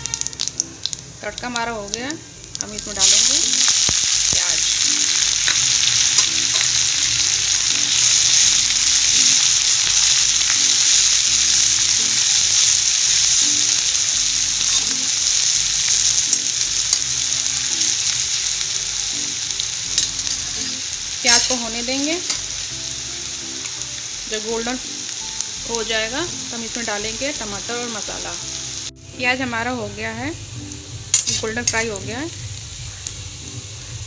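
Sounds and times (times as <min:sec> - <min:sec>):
onion sizzling in oil: 0:00.0 - 0:34.0.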